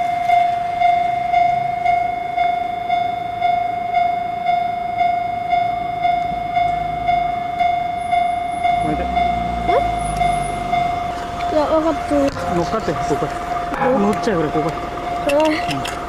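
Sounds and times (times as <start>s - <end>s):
level crossing warning bell ringing: 0.0s - 16.0s.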